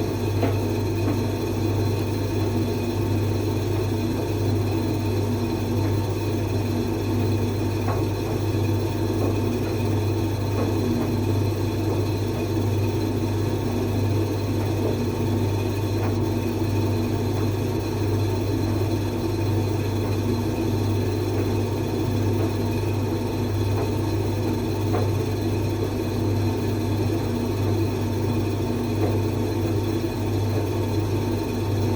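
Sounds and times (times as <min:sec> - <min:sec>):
appliance motor hum: 0:00.0 - 0:31.9.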